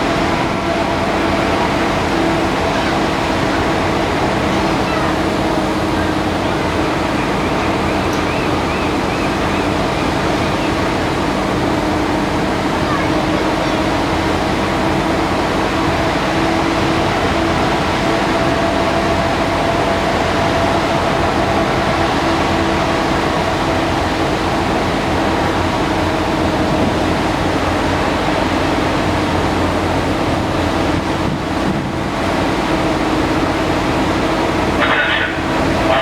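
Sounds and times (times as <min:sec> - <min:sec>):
ferry engine drone: 0:00.0 - 0:36.0.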